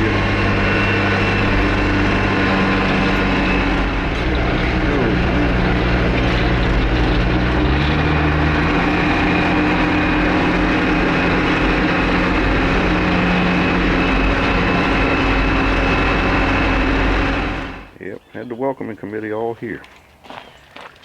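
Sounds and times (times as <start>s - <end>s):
wheel loader diesel engine running: 0.0s - 18.0s.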